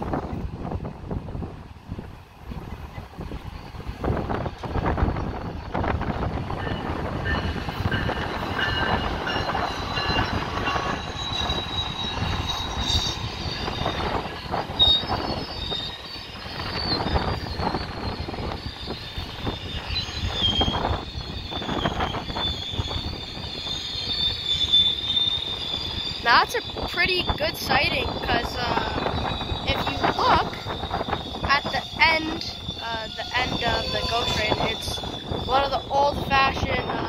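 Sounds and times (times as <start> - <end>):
train rumbling past: 0.0 - 37.0
wheels and brakes squealing: 2.6 - 37.0.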